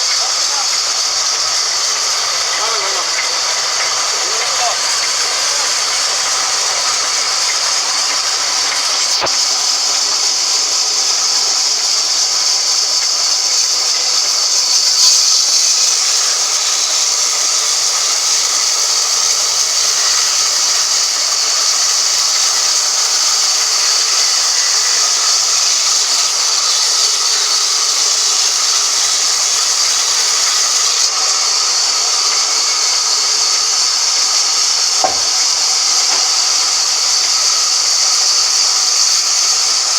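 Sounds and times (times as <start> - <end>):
band sawmill hissing: 0.0 - 39.9.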